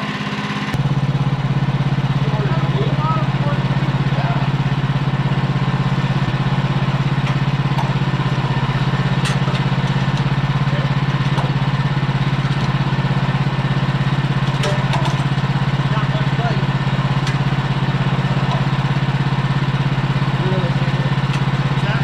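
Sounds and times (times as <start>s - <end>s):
sawmill engine idling: 0.0s - 22.0s.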